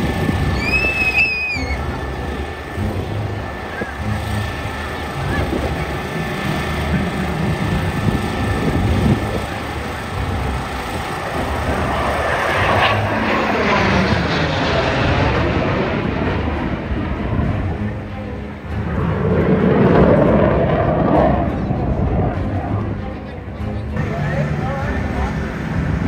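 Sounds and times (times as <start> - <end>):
aircraft flying past: 0.0 - 26.0.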